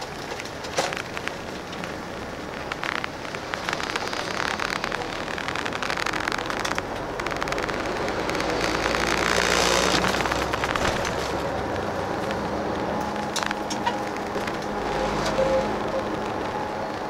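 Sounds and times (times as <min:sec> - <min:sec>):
bus engine and tyre noise: 0:00.0 - 0:17.0
small clicks and rattles: 0:00.0 - 0:17.0.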